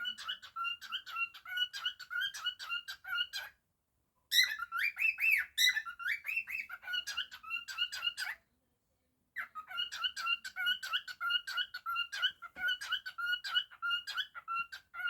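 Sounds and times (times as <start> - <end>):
cockatiel whistling and chirping: 0.0 - 3.6, 4.3 - 8.4, 9.4 - 15.0.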